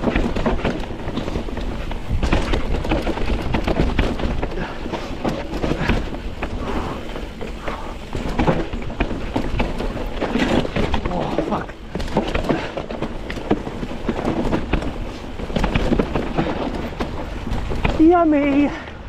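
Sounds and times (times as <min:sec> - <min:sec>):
bike knocking and rattling: 0:00.0 - 0:19.0
bike tyres rolling on dirt: 0:00.0 - 0:19.0
wind buffeting microphone: 0:00.0 - 0:19.0.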